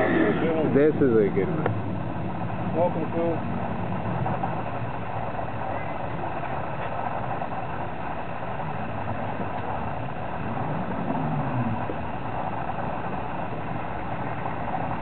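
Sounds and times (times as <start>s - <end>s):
distant car engines idling: 0.0s - 15.0s
engine revving: 0.0s - 15.0s.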